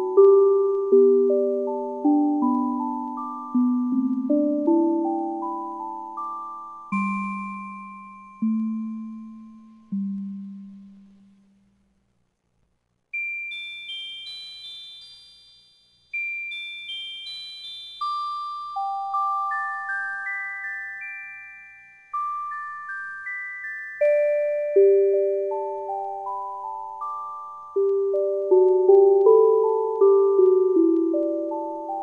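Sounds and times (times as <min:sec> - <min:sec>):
music box bell notes: 0:00.0 - 0:10.0, 0:13.2 - 0:32.0.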